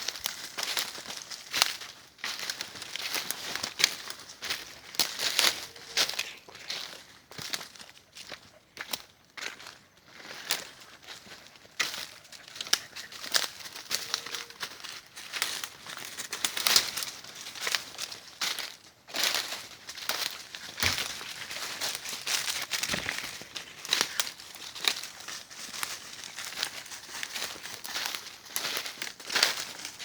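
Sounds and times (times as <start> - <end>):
footsteps in dry leaves: 0.0 - 30.0.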